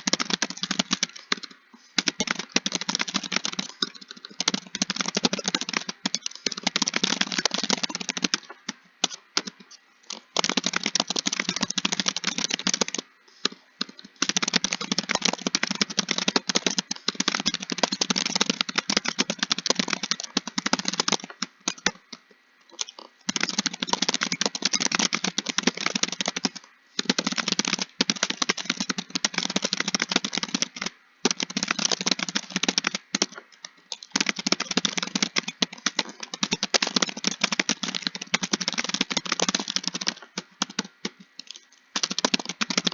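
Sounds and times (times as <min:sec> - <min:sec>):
computer keyboard typing: 0:00.0 - 0:22.1, 0:22.7 - 0:42.9.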